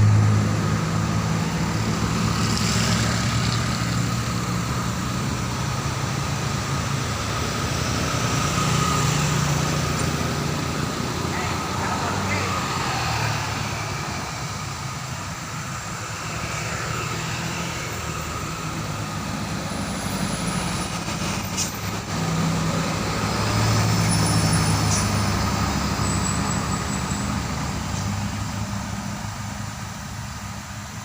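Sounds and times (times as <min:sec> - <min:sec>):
diesel traffic engine drone: 0:00.0 - 0:31.0
tyre and road noise: 0:00.0 - 0:31.0.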